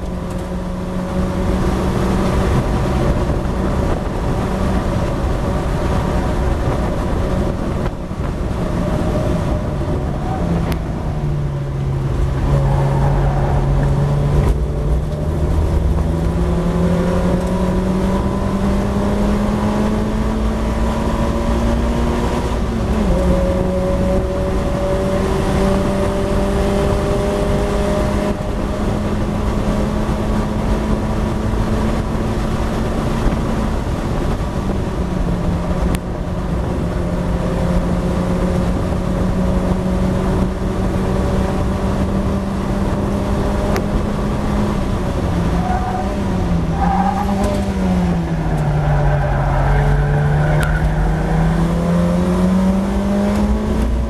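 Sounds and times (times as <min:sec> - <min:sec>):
race car engine accelerating: 0:00.0 - 0:54.0
road noise: 0:00.0 - 0:54.0
wind noise: 0:00.0 - 0:54.0.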